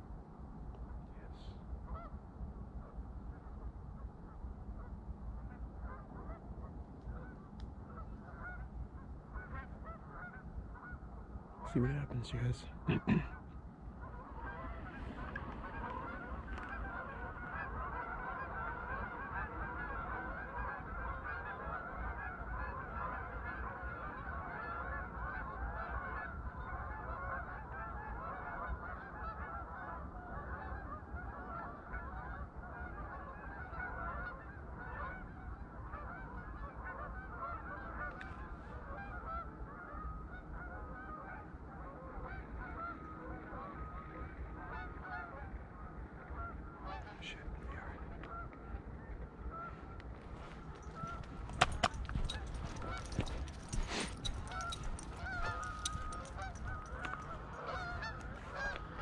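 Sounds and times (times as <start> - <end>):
flock of geese honking: 0.8 - 2.2, 2.8 - 59.0.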